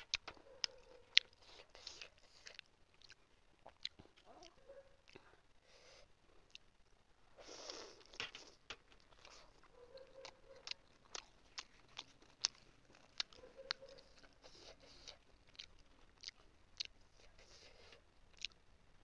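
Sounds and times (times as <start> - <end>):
person chewing: 0.0 - 6.7, 7.4 - 18.6.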